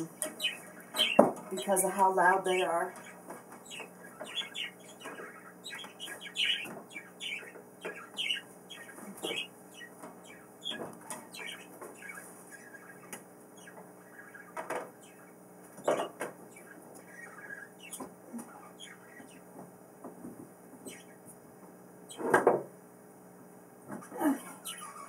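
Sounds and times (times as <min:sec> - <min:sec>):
pet birds chirping: 0:00.0 - 0:22.6, 0:23.9 - 0:25.0.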